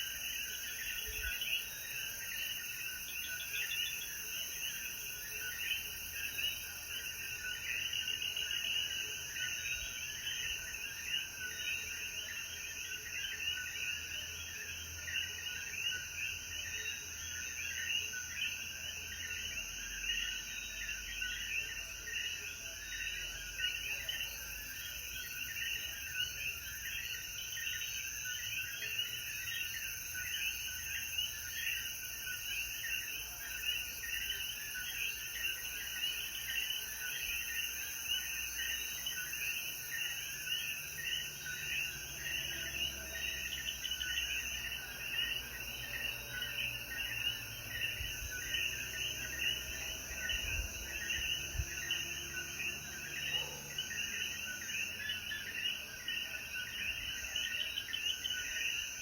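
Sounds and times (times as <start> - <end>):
frogs chirping: 0.0 - 59.0.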